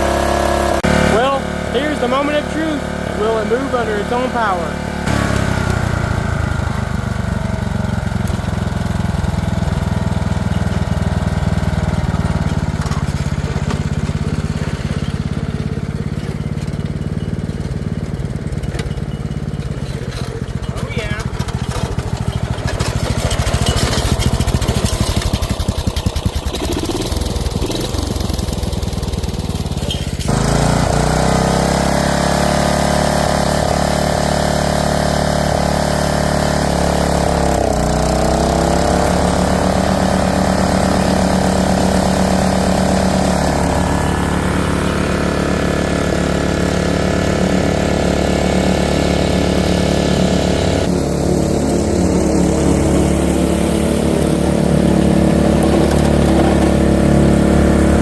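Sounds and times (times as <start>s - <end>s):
riding lawnmower engine running: 0.0s - 58.0s.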